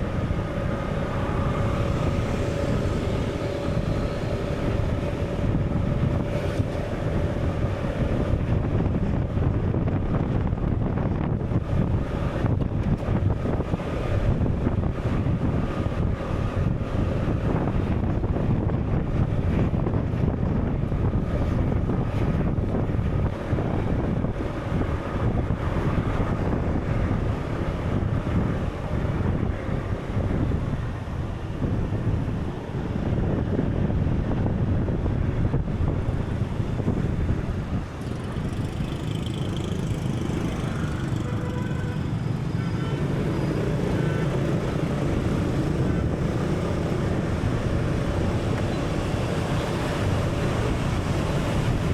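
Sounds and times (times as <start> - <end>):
low rumbling wind-like noise: 0.0 - 51.9.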